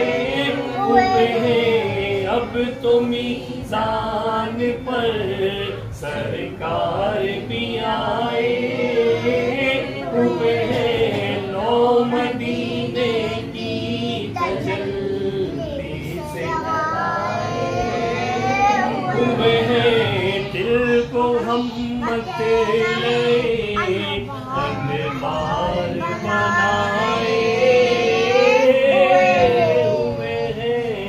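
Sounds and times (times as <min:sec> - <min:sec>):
men singing unaccompanied: 0:00.0 - 0:31.0.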